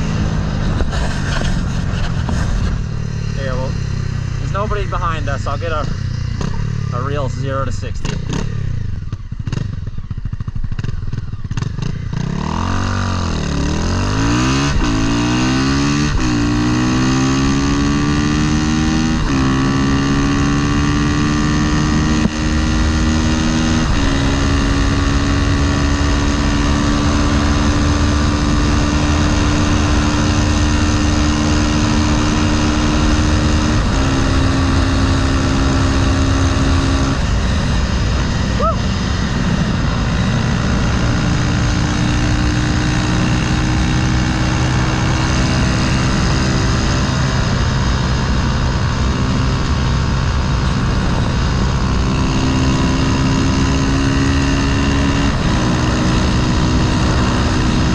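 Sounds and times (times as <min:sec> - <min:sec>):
motorcycle accelerating: 0:00.0 - 0:57.9.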